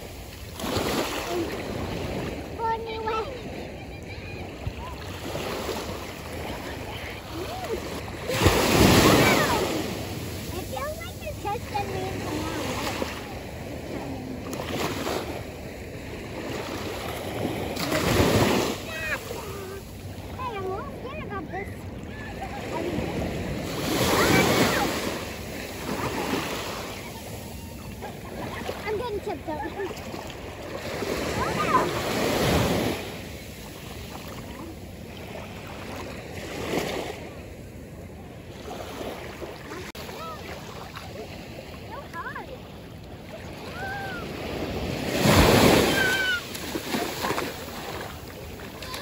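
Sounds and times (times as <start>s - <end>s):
small waves washing in: 0.0s - 49.0s
sea water splashing around legs: 4.8s - 13.4s, 16.4s - 37.2s, 38.7s - 49.0s.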